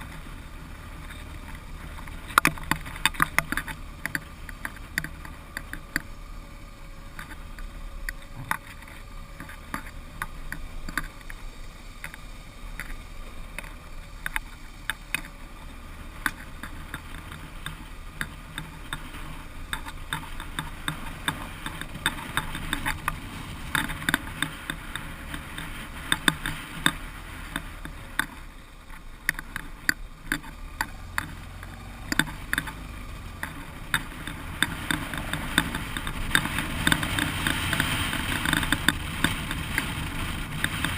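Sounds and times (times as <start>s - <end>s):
clicks and rattles over rough road: 0.0s - 40.9s
motorcycle engine hum: 0.0s - 40.9s.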